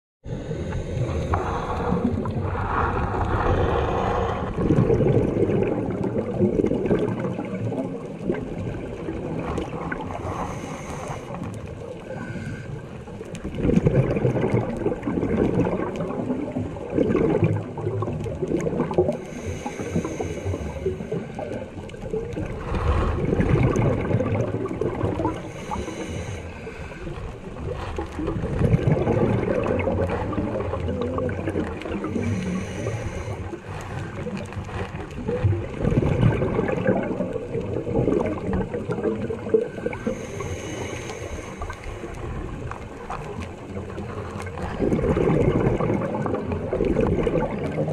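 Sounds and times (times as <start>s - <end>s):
underwater rumble: 0.2s - 47.9s
gurgling bubbles: 0.3s - 47.9s.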